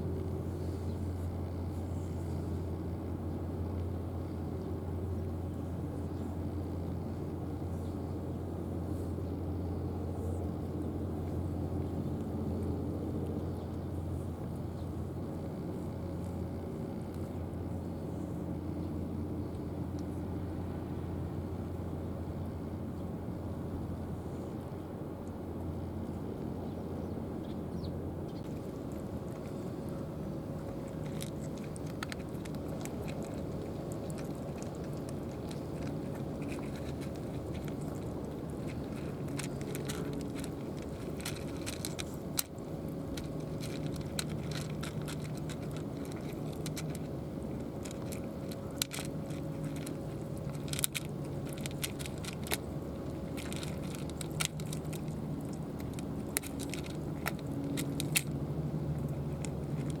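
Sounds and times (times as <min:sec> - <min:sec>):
cat crunching dry food: 0:00.0 - 0:02.9, 0:03.5 - 0:18.4, 0:28.4 - 1:00.0
steady low hum: 0:00.0 - 1:00.0.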